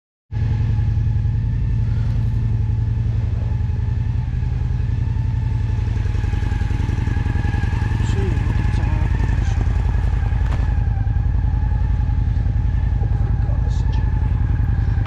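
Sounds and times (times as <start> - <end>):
motorcycle engine idling: 0.4 - 15.0.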